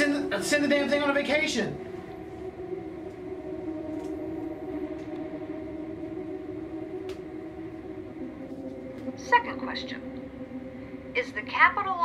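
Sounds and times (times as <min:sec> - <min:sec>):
low synth drone: 0:00.0 - 0:12.0.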